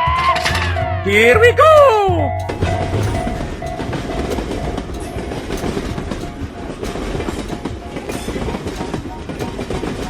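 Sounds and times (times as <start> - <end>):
train wheels clattering on rails: 1.6 - 10.0.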